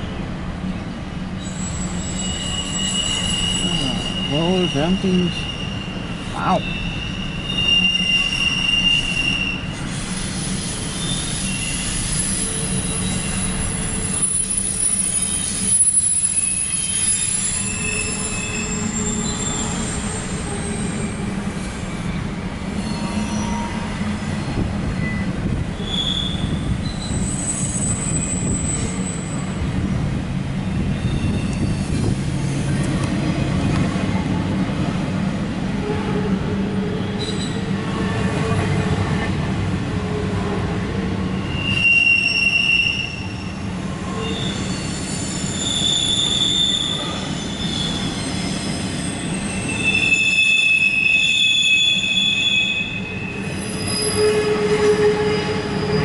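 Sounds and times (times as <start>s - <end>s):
freight train rumbling: 0.0s - 56.0s
train wheels squealing: 1.4s - 29.6s, 30.6s - 33.6s, 36.9s - 38.9s, 41.2s - 56.0s.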